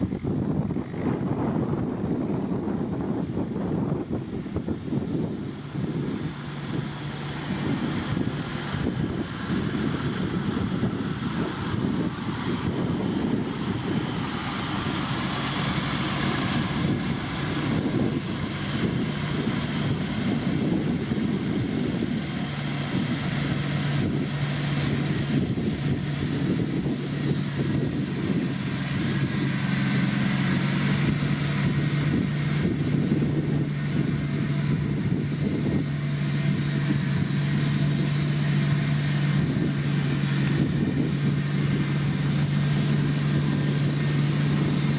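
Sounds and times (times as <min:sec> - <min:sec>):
diesel engine running: 0:00.0 - 0:44.9
low hum: 0:00.0 - 0:44.9.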